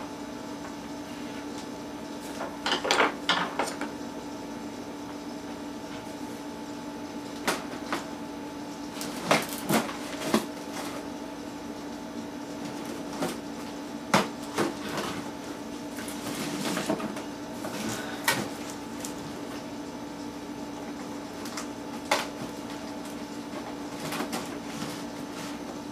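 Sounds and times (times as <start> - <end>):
desktop computer hum: 0.0 - 25.9.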